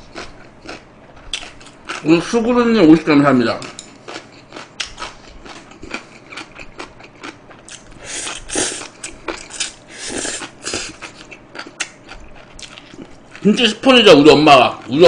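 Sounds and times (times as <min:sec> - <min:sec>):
person chewing: 0:00.0 - 0:02.2, 0:03.6 - 0:13.6.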